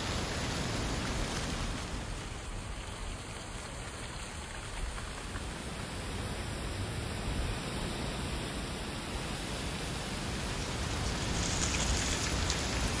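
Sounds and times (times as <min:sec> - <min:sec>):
wind rustling dry leaves: 0:00.0 - 0:13.0.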